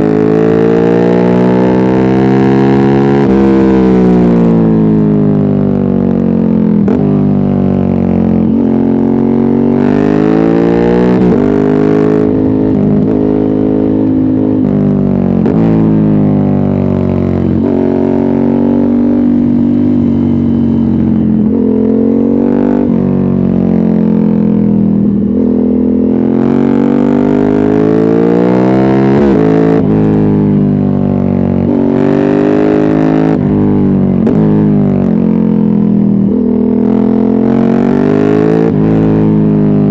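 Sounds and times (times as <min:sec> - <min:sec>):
loud motorcycle engine revving: 0:00.0 - 0:39.9.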